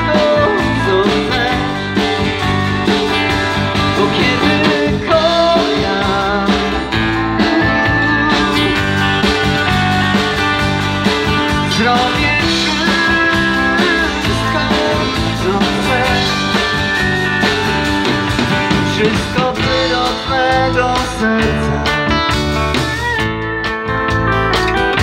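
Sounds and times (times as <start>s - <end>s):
country band playing: 0.0s - 25.0s.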